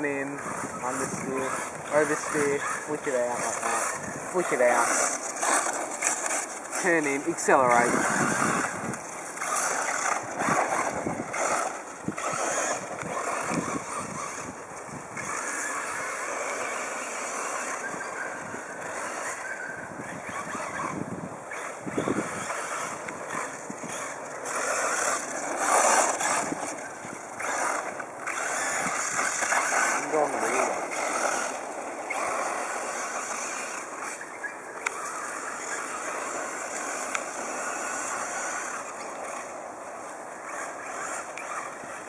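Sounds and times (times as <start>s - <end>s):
steady rushing noise: 0.0s - 42.0s
toy car motor whine: 0.0s - 42.0s.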